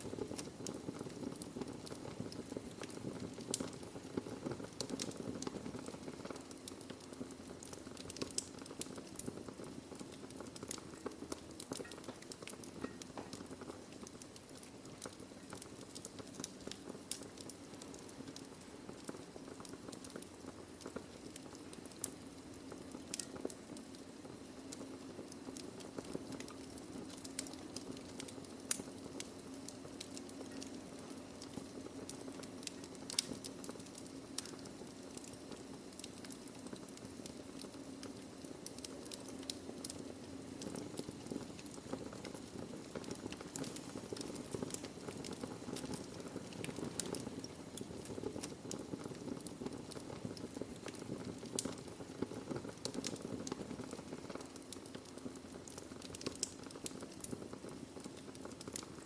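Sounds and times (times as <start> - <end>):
burning logs crackling and popping: 0.0 - 59.0
fire low rumble: 0.0 - 59.0.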